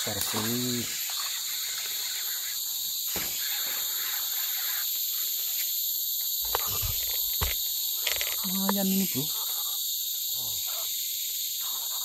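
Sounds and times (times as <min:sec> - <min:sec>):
shrill chorus of forest insects: 0:00.0 - 0:12.0.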